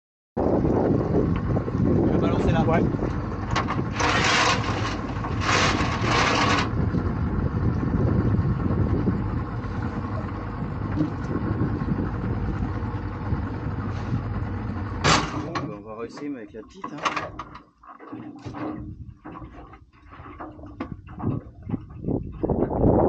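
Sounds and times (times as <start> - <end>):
outboard motor idling: 0.4 - 23.0.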